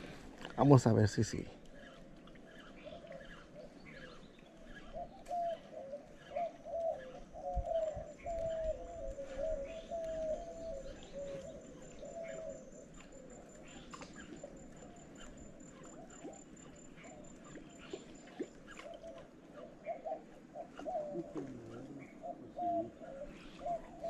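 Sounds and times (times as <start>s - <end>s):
birds calling low notes: 0.0s - 24.0s.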